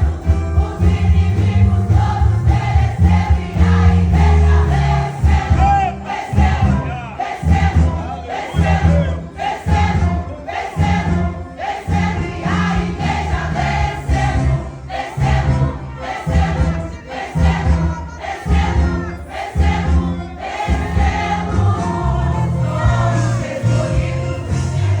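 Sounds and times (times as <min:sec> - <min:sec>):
band accompaniment with pulsing bass: 0:00.0 - 0:25.0
women's choir singing gospel: 0:00.0 - 0:25.0.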